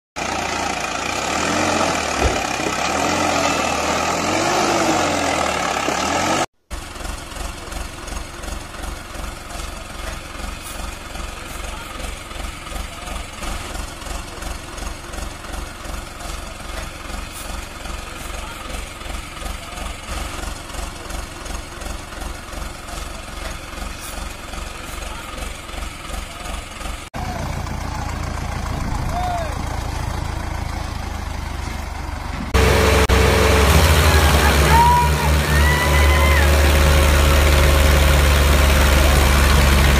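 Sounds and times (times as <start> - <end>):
tractor diesel engine: 0.2 - 39.9.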